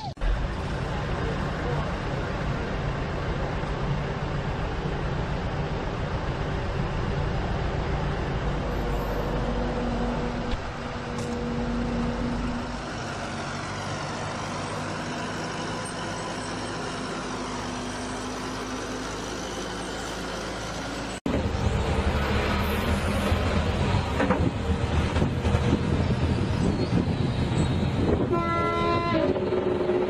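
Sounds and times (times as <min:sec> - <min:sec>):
diesel engine running: 0:00.2 - 0:26.8.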